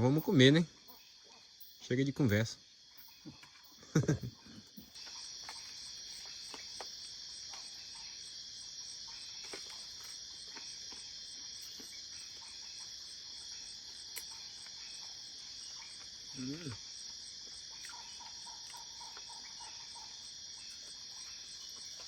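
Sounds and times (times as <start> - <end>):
night insects chirring: 0.0 - 22.0
pulsing insect call: 0.0 - 22.0.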